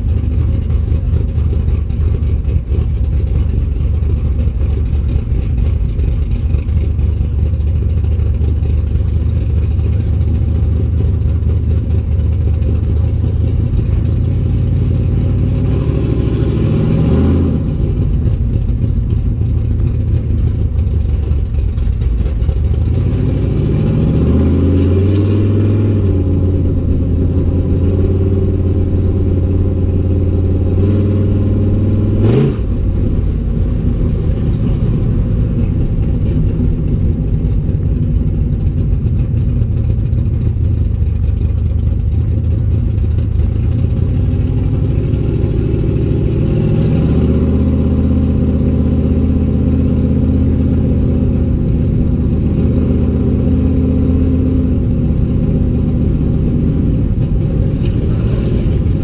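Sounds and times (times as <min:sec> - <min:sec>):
pickup engine running and revving: 0:00.0 - 0:59.0.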